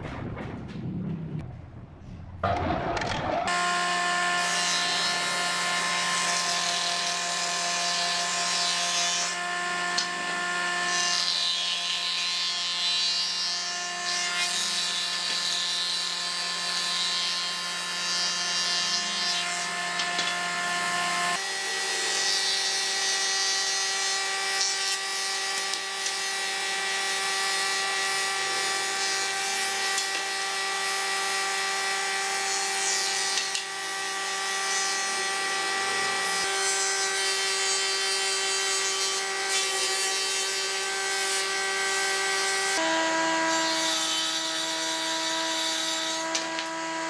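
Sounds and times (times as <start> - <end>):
boards being planed: 2.4 - 47.0
woodworking planer running: 3.0 - 47.0.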